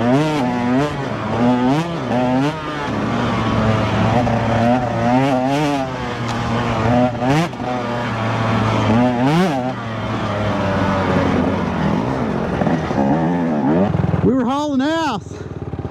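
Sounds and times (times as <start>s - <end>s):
dirt bike engine revving: 0.0s - 14.3s.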